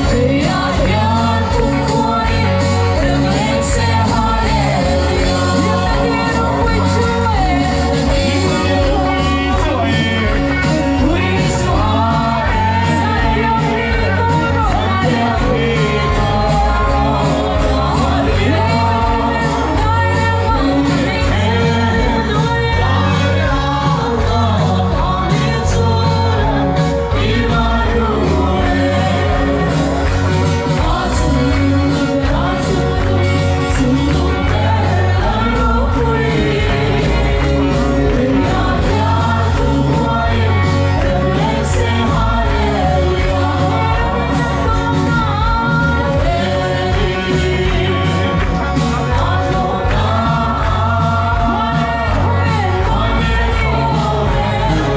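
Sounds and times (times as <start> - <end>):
drum beats: 0.0 - 54.9
gospel singing over a band: 0.0 - 54.9
pulsing bass: 0.0 - 54.9.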